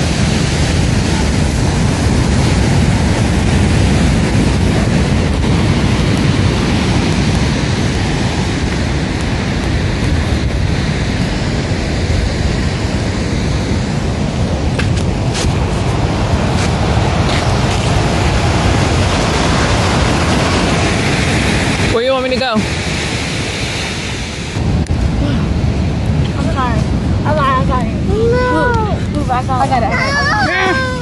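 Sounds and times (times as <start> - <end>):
ocean surf: 0.0 - 31.0
wind buffeting microphone: 0.0 - 31.0.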